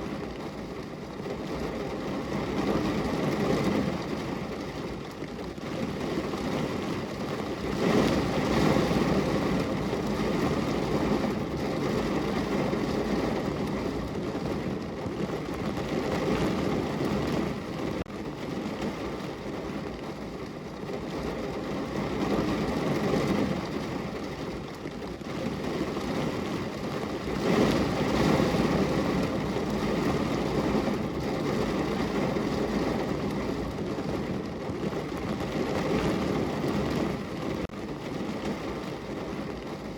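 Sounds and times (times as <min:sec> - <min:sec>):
rain on car windows: 0:00.0 - 0:39.9.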